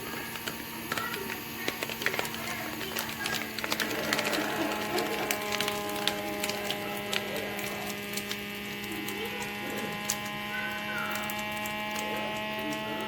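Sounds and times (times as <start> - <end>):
steady hum of held tones: 0.0 - 13.0.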